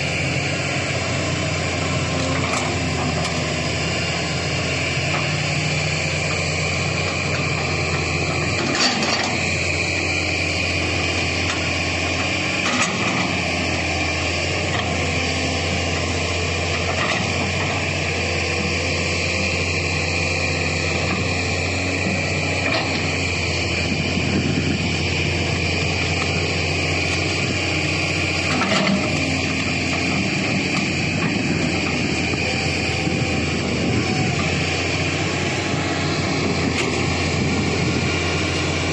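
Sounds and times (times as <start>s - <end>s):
excavator running: 0.0s - 38.9s.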